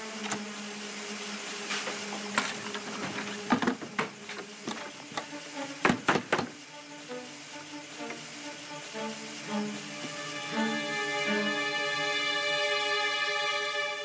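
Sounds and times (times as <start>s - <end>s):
low music drone: 0.0s - 14.0s.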